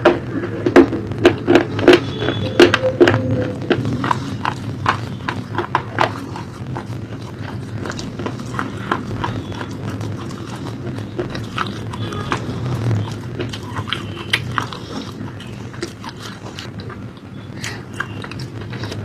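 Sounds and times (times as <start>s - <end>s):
crunchy food being chewed: 0.0s - 19.0s
steady low hum: 0.0s - 19.0s.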